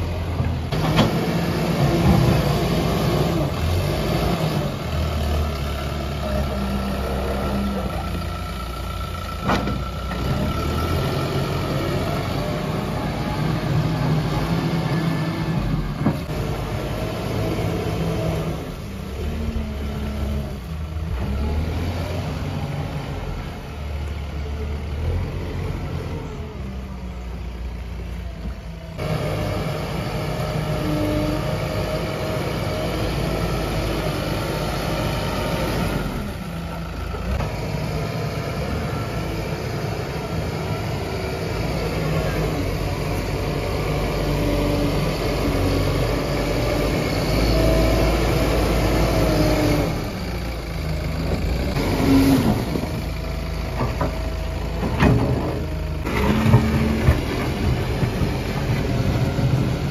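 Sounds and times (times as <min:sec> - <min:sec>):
diesel engine working under load: 0:00.0 - 0:59.9.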